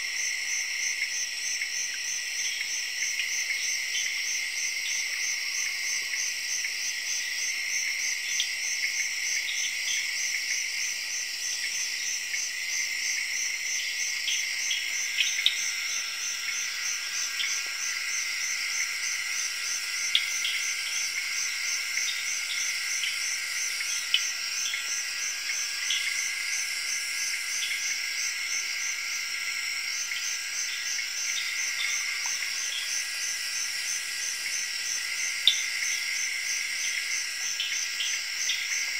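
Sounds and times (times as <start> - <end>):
crickets and insects trilling: 0.0 - 38.9
insect fast pulsing: 0.0 - 38.9.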